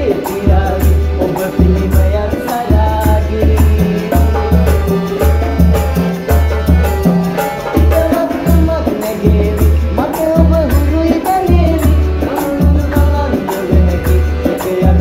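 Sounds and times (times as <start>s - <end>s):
men singing together: 0.0s - 6.0s, 6.9s - 15.0s
accordion: 0.0s - 15.0s
deep bass line: 0.0s - 15.0s
hand drums: 0.0s - 15.0s.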